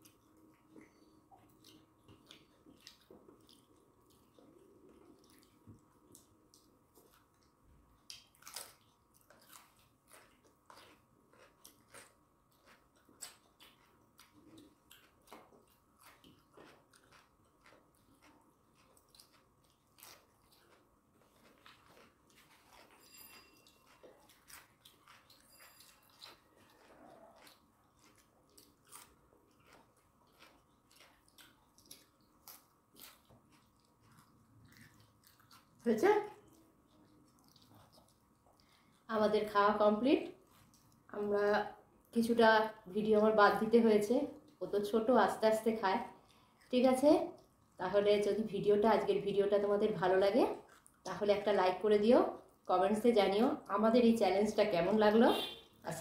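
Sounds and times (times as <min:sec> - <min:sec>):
people chewing food: 0:00.0 - 0:53.7.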